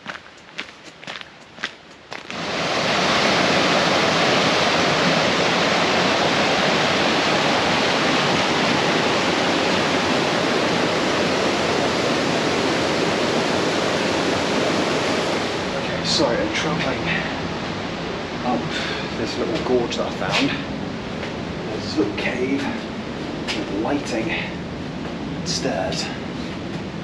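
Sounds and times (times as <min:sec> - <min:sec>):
mountain river rushing: 0:02.1 - 0:26.5.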